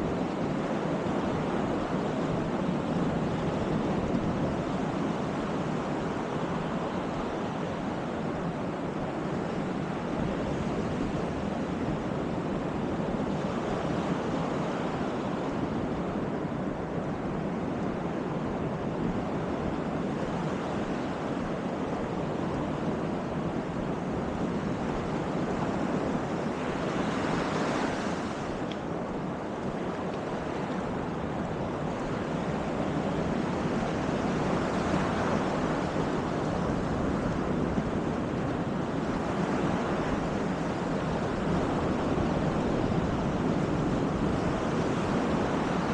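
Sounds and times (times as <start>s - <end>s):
surf washing onto beach: 0.0s - 45.9s
wind buffeting microphone: 0.0s - 45.9s.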